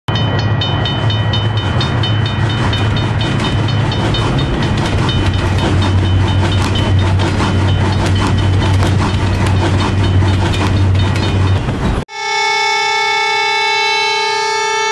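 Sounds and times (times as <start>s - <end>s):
train rumbling past: 0.1s - 12.1s
train wheels clicking on rail joints: 0.1s - 12.1s.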